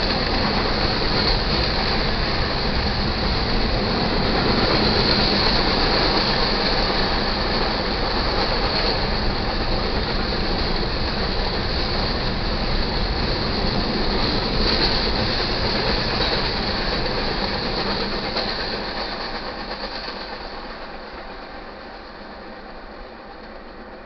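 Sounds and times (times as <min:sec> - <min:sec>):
train wheels rumbling and clattering: 0:00.0 - 0:24.0.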